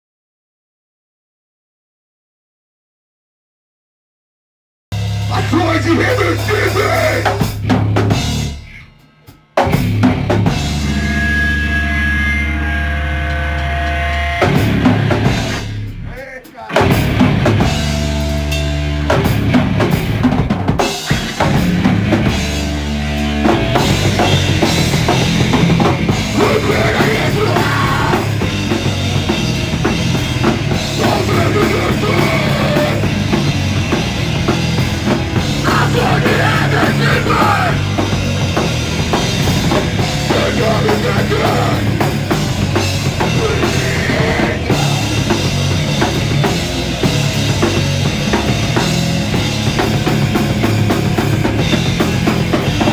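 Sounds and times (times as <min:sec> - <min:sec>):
bass: 0:04.9 - 0:52.9
drum kit: 0:04.9 - 0:52.9
distorted electric guitar: 0:05.0 - 0:52.9
live rock band: 0:05.0 - 0:52.9.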